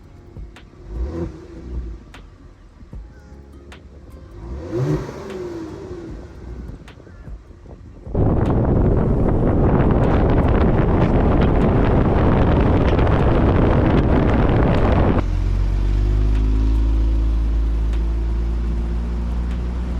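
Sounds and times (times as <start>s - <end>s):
car engine and exhaust drone: 0.0s - 19.9s
wind noise on microphone: 0.0s - 19.9s.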